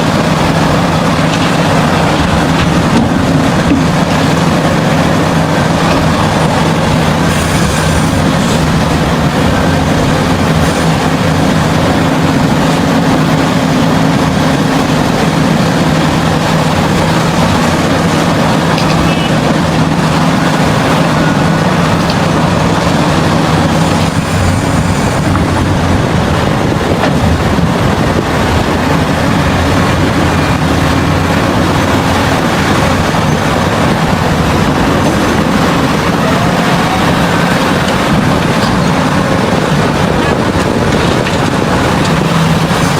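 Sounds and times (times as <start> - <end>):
heavy diesel machinery running: 0.0 - 42.9
steady engine tone: 0.0 - 42.9.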